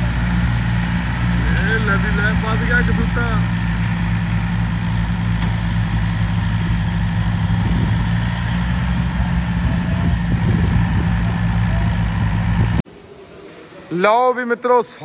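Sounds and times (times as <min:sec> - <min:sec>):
tractor diesel engine running: 0:00.0 - 0:12.8.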